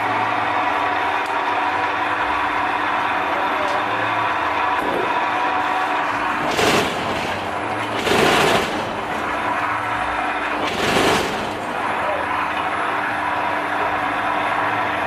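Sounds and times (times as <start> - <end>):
rapid mechanical rattling: 0.0 - 15.0
steady motor hum: 0.0 - 15.0.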